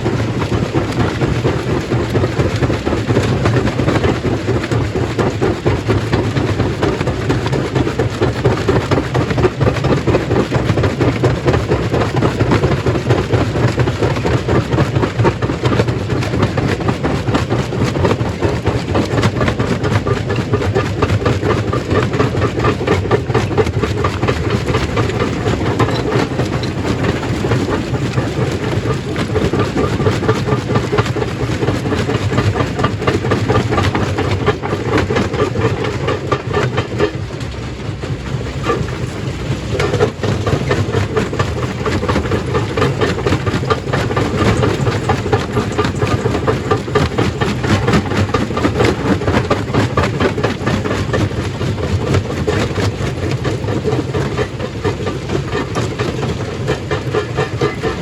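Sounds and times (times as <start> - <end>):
stone crushing machine hum: 0.0 - 58.0
rock rattling and tumbling: 0.3 - 58.0.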